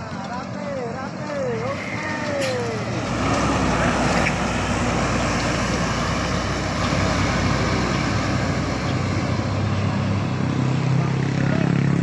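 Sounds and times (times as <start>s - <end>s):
bus diesel engine passing: 0.0s - 12.0s
tyre and road noise: 0.0s - 12.0s.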